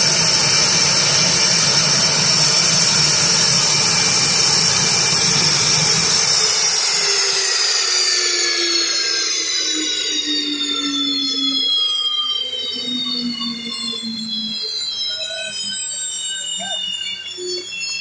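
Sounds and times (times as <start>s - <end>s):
jet engines spooling down: 0.0s - 18.0s.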